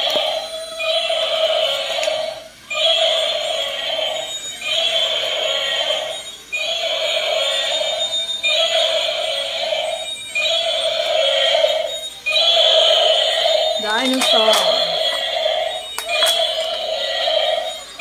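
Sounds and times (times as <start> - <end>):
buzzy synthesized toy tone: 0.0 - 18.0.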